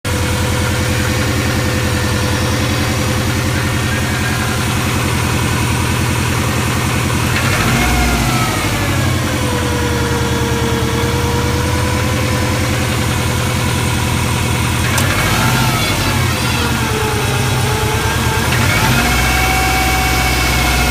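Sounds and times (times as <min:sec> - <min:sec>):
car engine idling with knock: 0:00.0 - 0:20.9
engine revving lightly: 0:00.1 - 0:13.8, 0:14.6 - 0:20.9.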